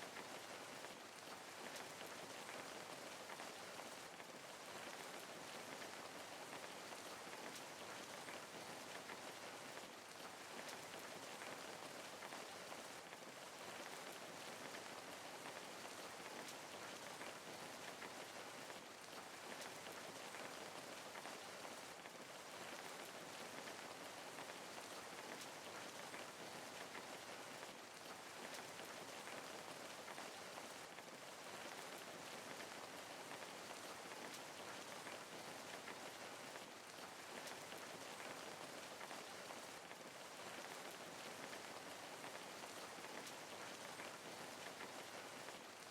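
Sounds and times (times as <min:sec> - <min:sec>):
rain patter on a surface: 0:00.0 - 0:45.9.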